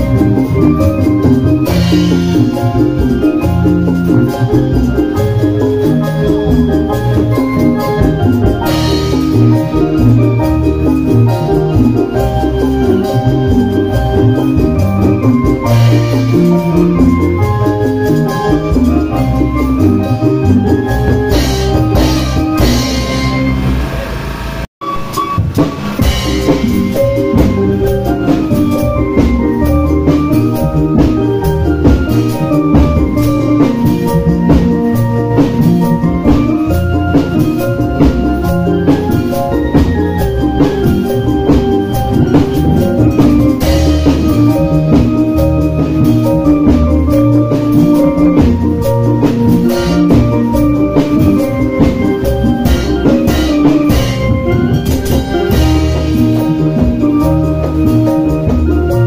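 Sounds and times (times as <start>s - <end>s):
gong: 0.0s - 59.0s.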